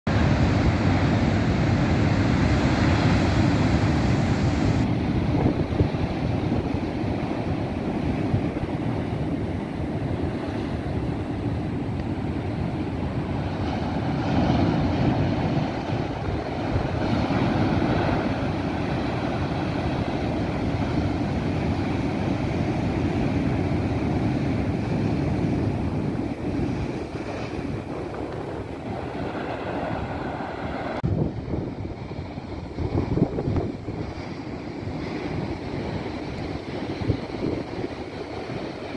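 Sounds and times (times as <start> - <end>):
ocean waves breaking on rocks: 0.1 - 38.9
wind buffeting microphone: 0.1 - 38.9.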